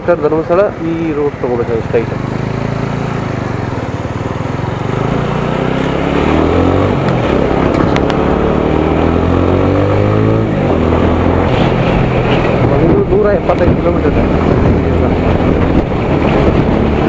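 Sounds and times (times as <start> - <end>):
motorcycle engine revving: 0.2 - 17.0.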